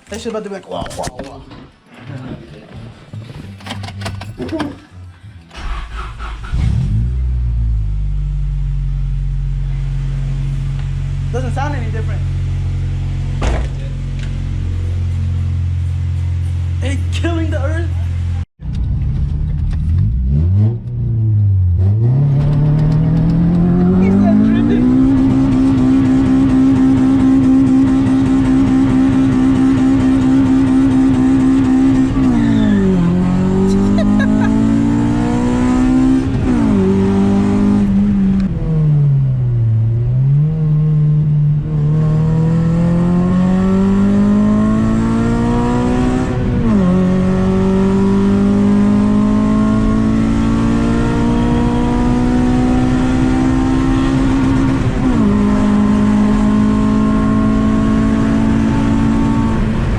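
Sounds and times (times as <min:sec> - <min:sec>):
car engine and exhaust revving: 0:02.7 - 0:59.9.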